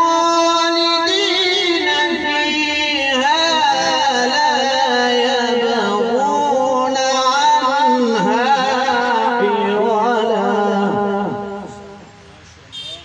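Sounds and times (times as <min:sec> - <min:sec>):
man reciting melodically: 0:00.0 - 0:12.2.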